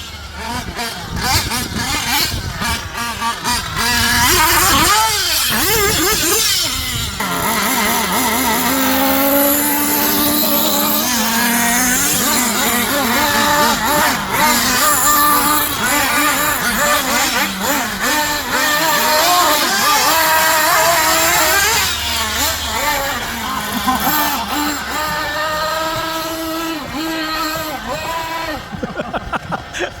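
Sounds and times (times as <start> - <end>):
other engines running: 0.0 - 30.0
rc buggy nitro engine: 0.0 - 30.0.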